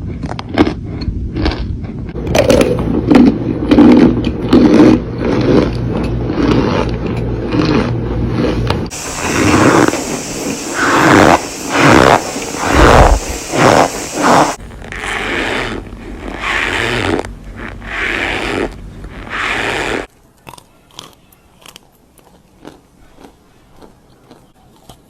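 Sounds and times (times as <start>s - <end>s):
close-miked crunching: 0.0s - 25.0s.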